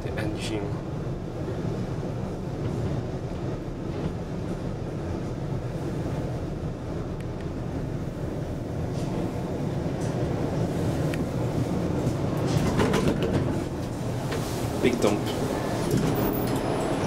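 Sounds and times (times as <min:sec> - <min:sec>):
elevator machinery rumbling: 0:00.7 - 0:17.0.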